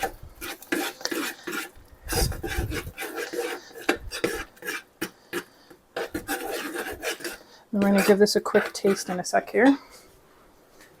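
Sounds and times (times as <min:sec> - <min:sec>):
spoon scraping pan bottom: 0:00.0 - 0:09.5.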